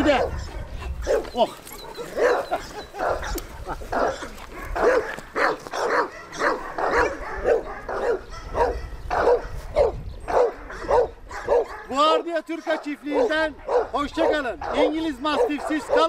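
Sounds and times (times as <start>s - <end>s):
dog barking: 0.0s - 16.0s.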